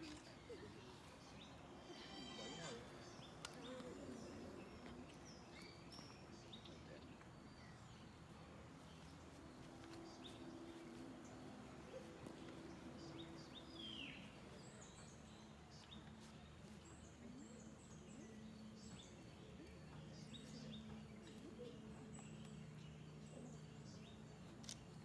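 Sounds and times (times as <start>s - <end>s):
faint low hum: 0.0s - 25.0s
small birds chirping: 0.0s - 25.0s.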